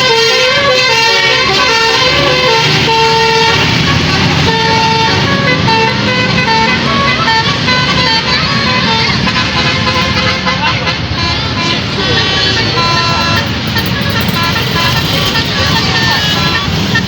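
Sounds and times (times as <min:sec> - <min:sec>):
multi-tone bus horn tune: 0:00.0 - 0:17.0.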